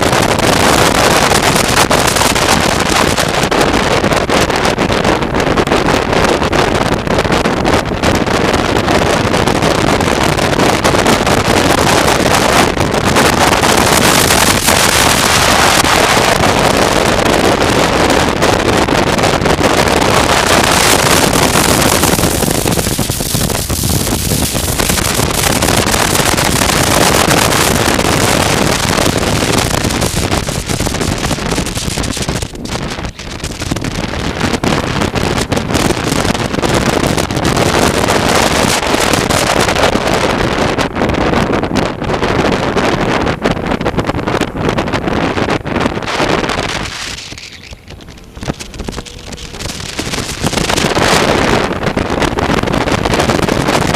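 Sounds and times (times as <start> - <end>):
road noise: 0.0 - 53.9
wind rushing over microphone: 0.0 - 53.9.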